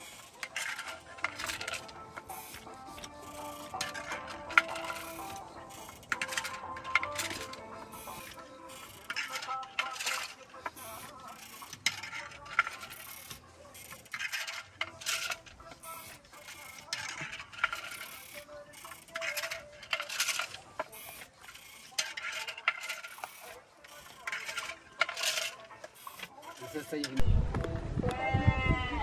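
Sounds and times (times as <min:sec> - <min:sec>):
wooden loom beater clattering: 0:00.0 - 0:27.2.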